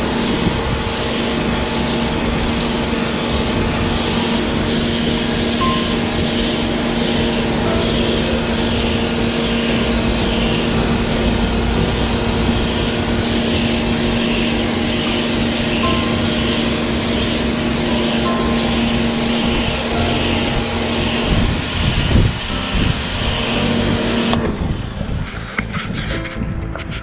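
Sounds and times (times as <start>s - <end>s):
water jet hissing on concrete: 0.0s - 24.5s
pressure washer motor humming: 0.0s - 25.8s.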